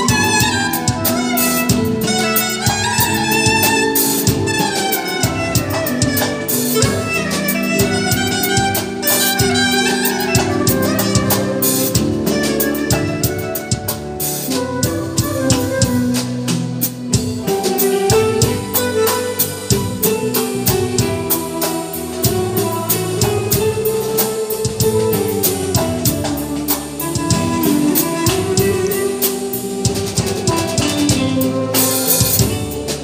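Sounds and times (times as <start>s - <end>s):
clarinet melody: 0.0s - 33.0s
drum kit and percussion beat: 0.0s - 33.0s.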